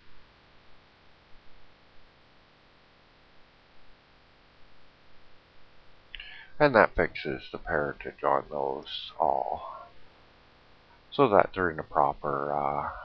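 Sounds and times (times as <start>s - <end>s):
microphone hiss and hum: 0.0s - 13.0s.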